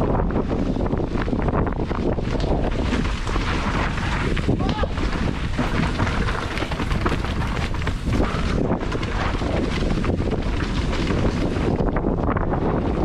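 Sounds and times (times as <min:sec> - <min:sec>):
bike rattling over rough trail: 0:00.0 - 0:13.0
wind buffeting microphone: 0:00.0 - 0:13.0.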